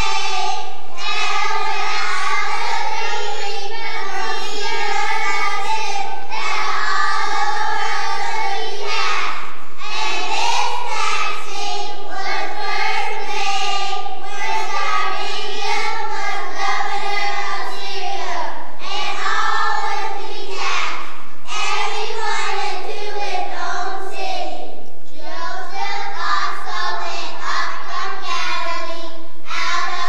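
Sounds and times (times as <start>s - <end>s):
children reciting in unison: 0.0s - 30.0s.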